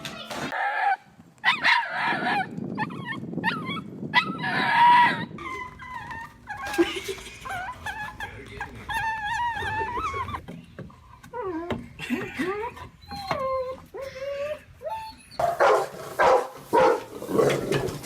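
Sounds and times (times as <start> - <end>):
dog whining and yipping: 0.5 - 15.4.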